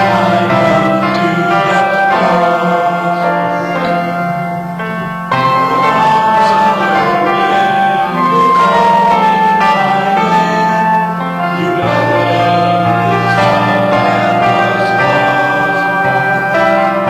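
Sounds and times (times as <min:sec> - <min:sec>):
church keyboard music: 0:00.0 - 0:17.0.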